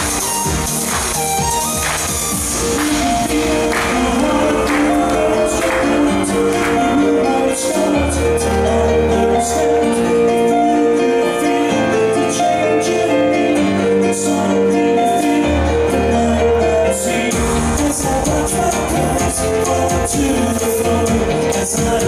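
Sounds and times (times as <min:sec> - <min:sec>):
synthpop on synthesizer keyboard: 0:00.0 - 0:22.0.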